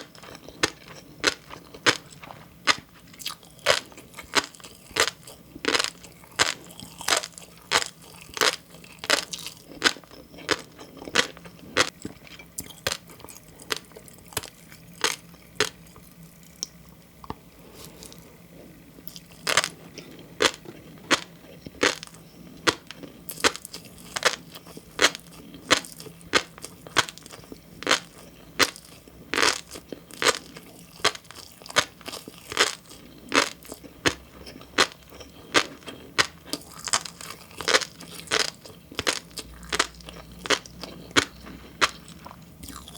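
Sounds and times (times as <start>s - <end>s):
chewing fish roe popping: 0.0s - 42.9s.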